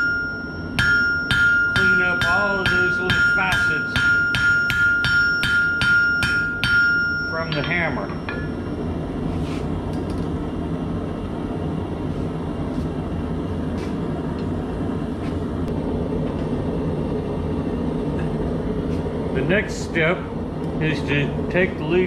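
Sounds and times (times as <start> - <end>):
gas burner roaring: 0.0 - 22.0.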